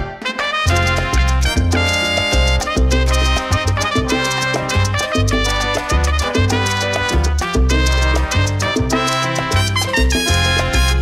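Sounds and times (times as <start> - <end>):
salsa band music: 0.0 - 11.0.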